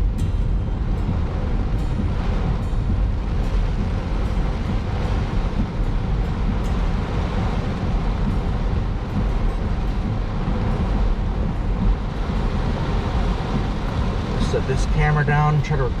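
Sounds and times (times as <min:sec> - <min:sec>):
deep rumble: 0:00.0 - 0:16.0
gusting wind: 0:00.0 - 0:16.0
heavy rain beating on a car: 0:00.0 - 0:16.0.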